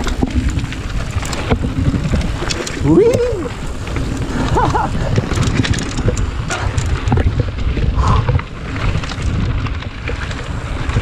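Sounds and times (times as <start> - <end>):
bike clicks and rattles: 0.0 - 11.0
bike tyres rumbling over gravel: 0.0 - 11.0
wind buffeting microphone: 0.0 - 11.0.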